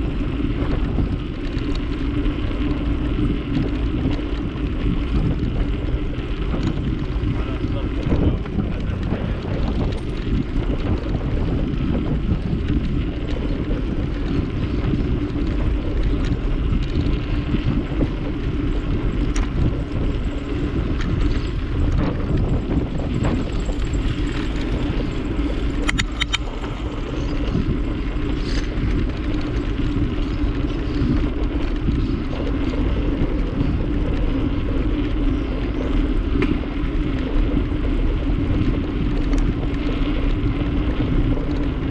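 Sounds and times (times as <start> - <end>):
bicycle rolling rumble: 0.0 - 41.9
wind on microphone: 0.0 - 41.9.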